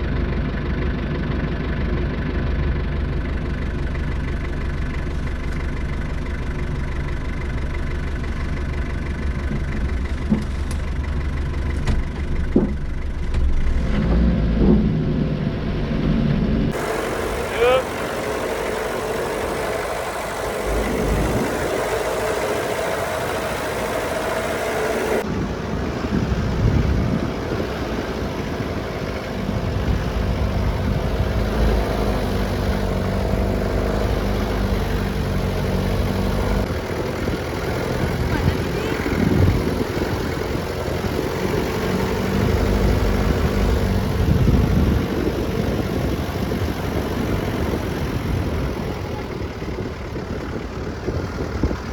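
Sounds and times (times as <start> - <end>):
jeep engine running: 0.0 - 51.9
rough noisy background: 8.8 - 51.9.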